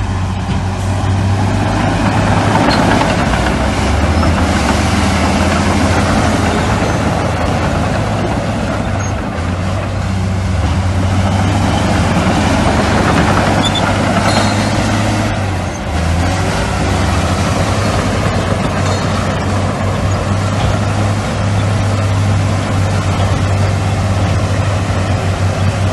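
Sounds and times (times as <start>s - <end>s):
diesel machinery engine drone: 0.0s - 25.9s
machinery clattering: 0.4s - 25.9s.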